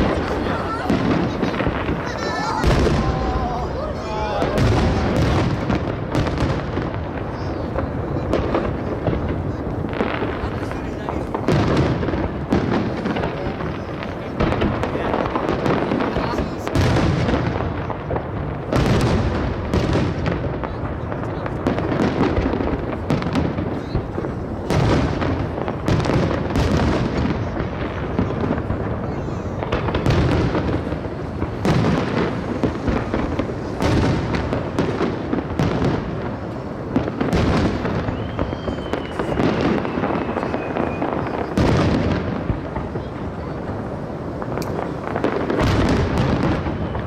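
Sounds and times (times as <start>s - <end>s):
firework whistling: 0.0s - 20.8s, 21.5s - 47.0s
fireworks bursting: 0.0s - 47.0s.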